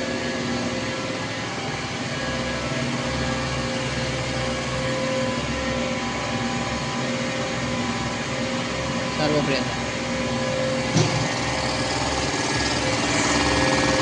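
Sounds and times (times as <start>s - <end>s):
hydraulic pump humming: 0.0s - 14.0s.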